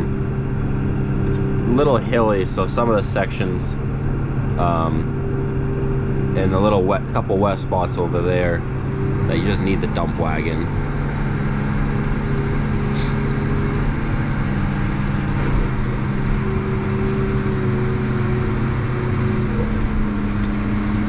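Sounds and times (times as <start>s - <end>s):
faint engine whine: 0.0s - 21.0s
tractor diesel engine drone: 0.0s - 21.0s.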